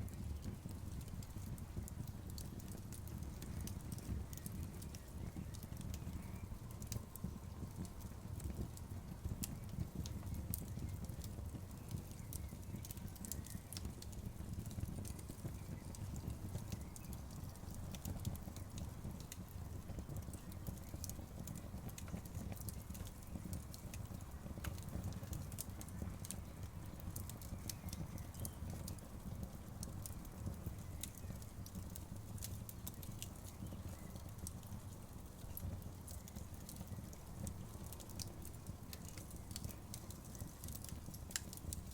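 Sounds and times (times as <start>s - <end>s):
bonfire crackling: 0.0s - 41.9s.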